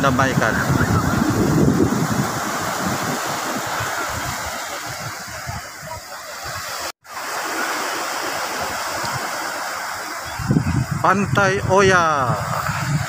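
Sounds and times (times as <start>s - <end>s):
wind rumbling on microphone: 0.0s - 6.9s, 8.5s - 13.0s
surf washing up a beach: 0.0s - 13.0s.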